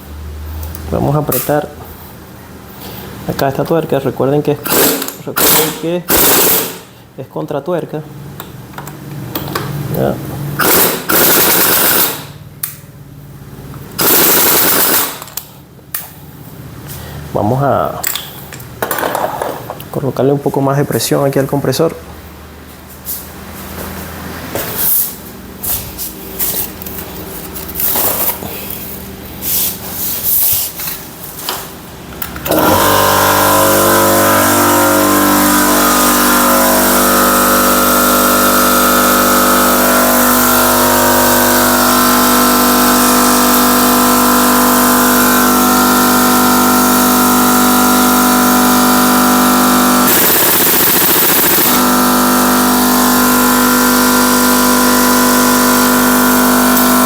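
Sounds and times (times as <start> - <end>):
air compressor running: 0.0 - 3.6, 4.4 - 7.2, 8.2 - 17.4, 22.2 - 57.0.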